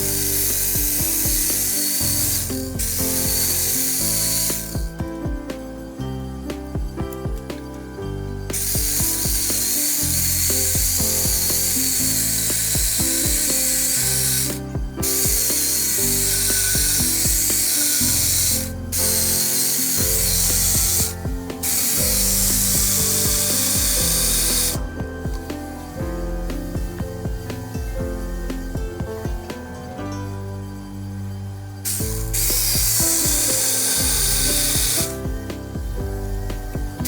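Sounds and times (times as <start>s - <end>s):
background music: 0.0s - 37.0s
power tool working wood: 0.0s - 37.0s.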